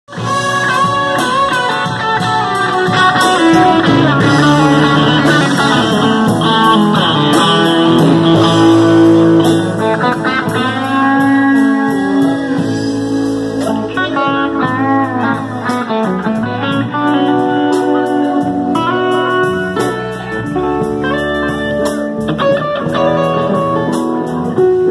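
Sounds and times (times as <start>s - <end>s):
electric guitars: 0.1s - 24.9s.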